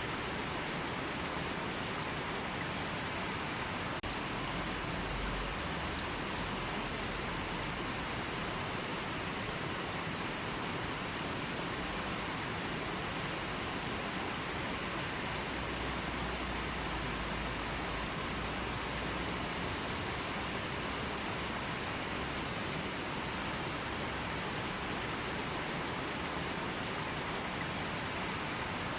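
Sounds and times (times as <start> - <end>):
water rushing: 0.0 - 28.9.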